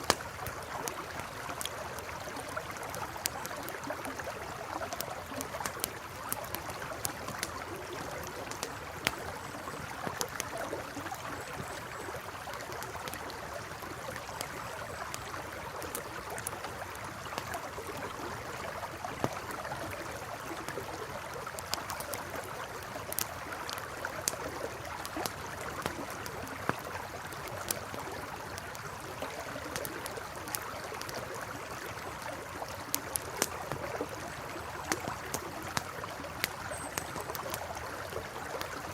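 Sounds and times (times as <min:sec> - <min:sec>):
campfire crackling and popping: 0:00.0 - 0:38.9
stream flowing: 0:00.0 - 0:38.9.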